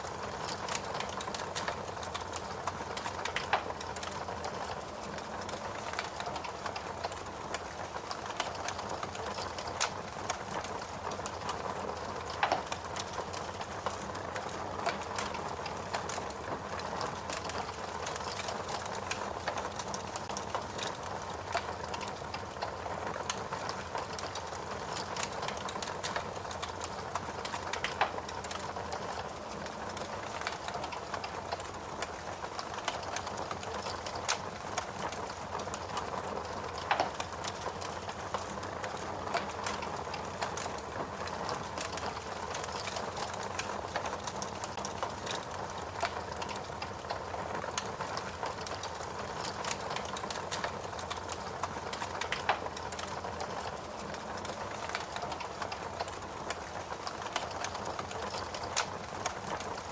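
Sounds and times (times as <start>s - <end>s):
fire crackling: 0.0s - 59.9s
loud fire snaps: 0.1s - 59.9s.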